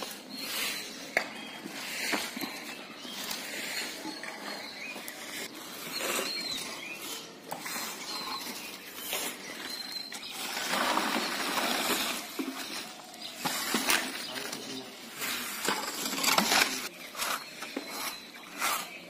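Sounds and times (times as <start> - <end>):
brooms sweeping over dirt: 0.0 - 19.0.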